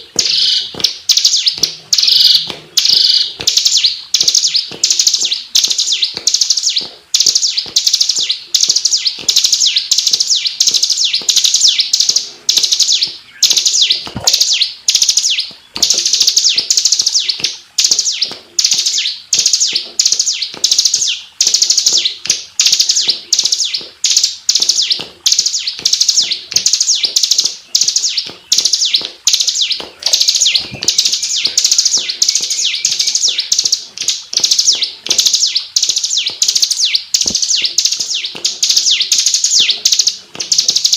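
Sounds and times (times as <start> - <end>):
bird singing rapid high trill: 0.0 - 40.9.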